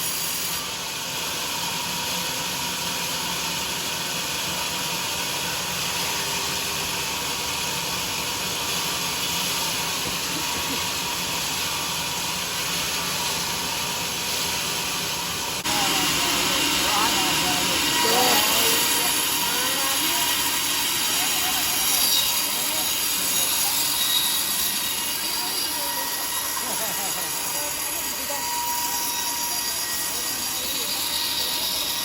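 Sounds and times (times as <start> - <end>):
sawmill saw cutting log: 0.0 - 32.0.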